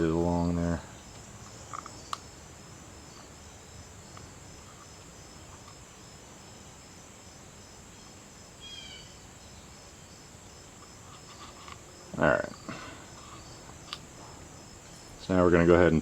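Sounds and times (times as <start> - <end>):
insects chirping: 0.0 - 16.0
steady low hiss: 0.0 - 16.0.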